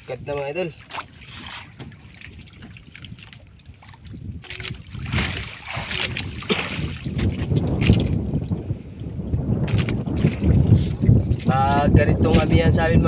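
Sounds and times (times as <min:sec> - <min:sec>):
water splashing against boat hull: 0:00.0 - 0:12.9
wind rumbling on microphone: 0:00.0 - 0:13.0.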